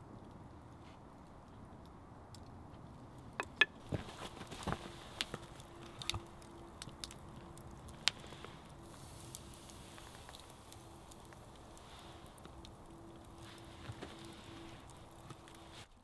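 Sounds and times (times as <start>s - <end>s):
campfire coals crackling: 0.0s - 16.0s
fire popping: 0.0s - 16.0s.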